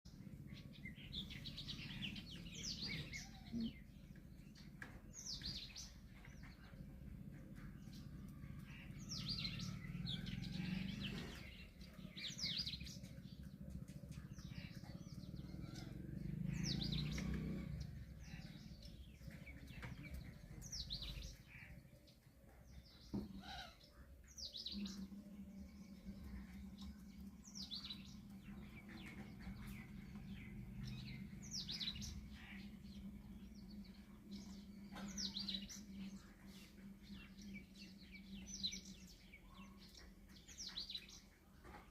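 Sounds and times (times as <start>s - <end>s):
bird chirping: 0.1s - 41.9s
low steady hum: 0.1s - 41.9s.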